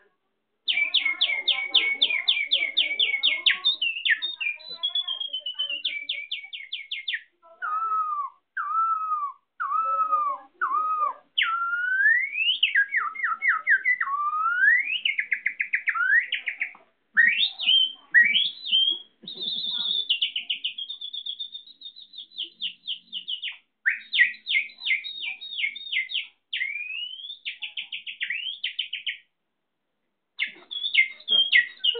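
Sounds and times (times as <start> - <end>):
person whistling bird song: 3.8 - 16.6, 17.2 - 29.2, 30.4 - 31.9.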